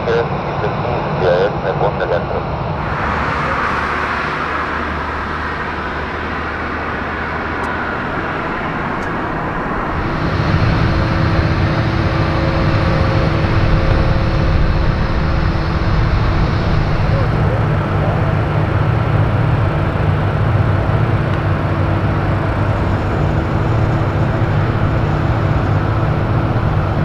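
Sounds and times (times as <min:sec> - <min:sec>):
parked aircraft humming: 0:00.0 - 0:27.0.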